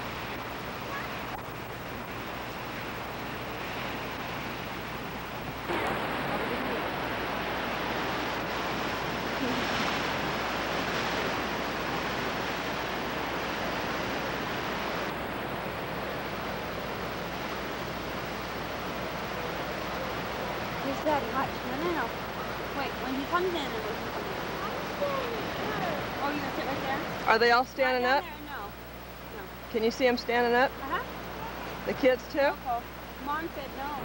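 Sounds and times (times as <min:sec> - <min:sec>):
wind buffeting microphone: 0:00.0 - 0:27.4
surging water and surf: 0:00.0 - 0:34.0.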